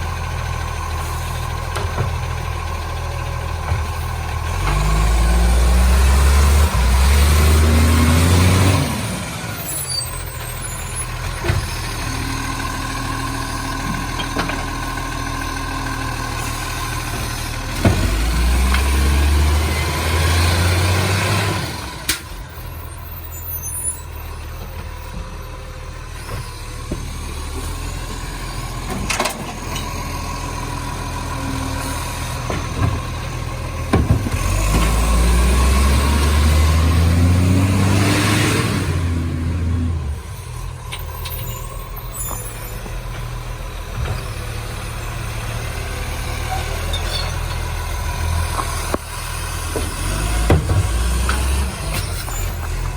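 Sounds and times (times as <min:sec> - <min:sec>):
truck diesel engine idling and revving: 0:00.0 - 0:52.9.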